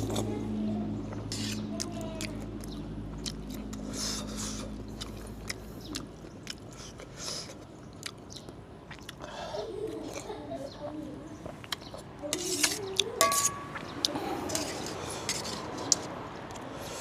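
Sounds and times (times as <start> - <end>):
person slurping and chewing soup: 0.0 - 10.4, 11.4 - 17.0.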